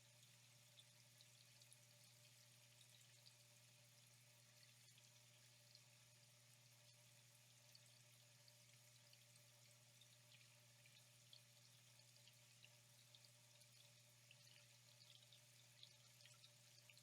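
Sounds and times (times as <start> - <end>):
drip-like ticks: 0.0 - 6.0, 6.8 - 17.0
faint trickling water: 0.0 - 17.0.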